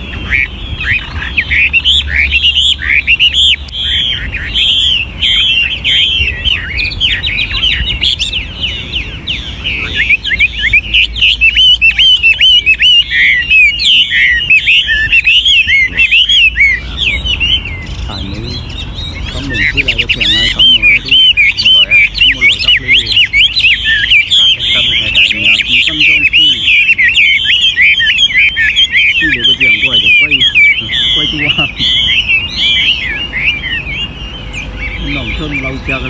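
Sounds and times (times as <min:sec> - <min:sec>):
bird singing whistled phrases: 0:00.0 - 0:36.0.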